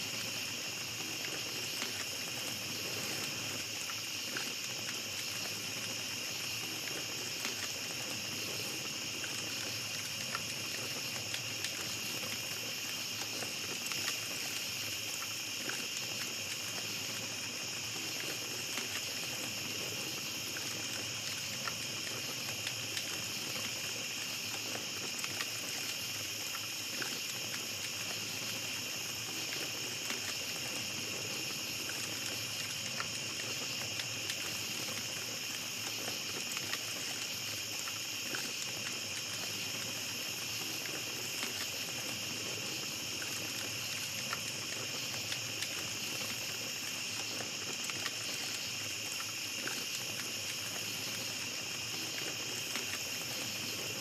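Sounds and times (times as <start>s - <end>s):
campfire crackling: 0.0s - 54.0s
night insects chorus: 0.0s - 54.0s.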